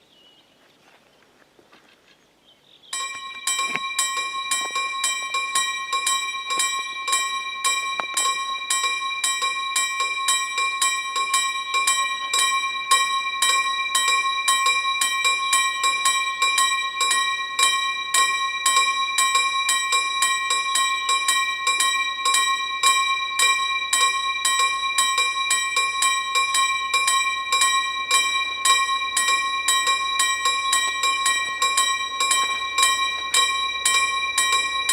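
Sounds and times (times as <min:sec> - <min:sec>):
level crossing warning bell: 0:02.9 - 0:34.9.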